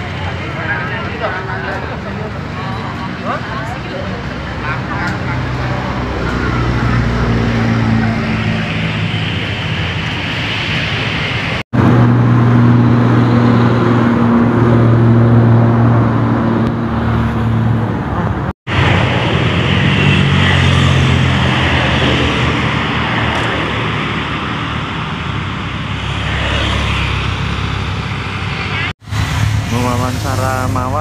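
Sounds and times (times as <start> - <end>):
cars passing close by: 0.0 - 31.0
steady engine hum: 0.0 - 31.0.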